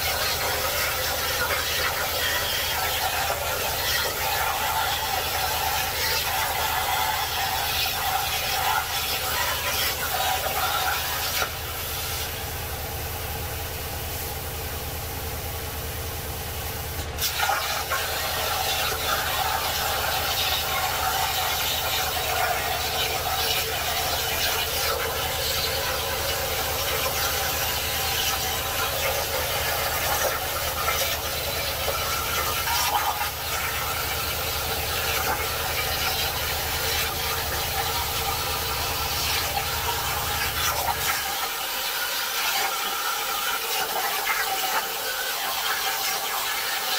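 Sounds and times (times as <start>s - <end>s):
plasma cutter hissing and crackling: 0.0s - 12.4s, 16.6s - 46.9s.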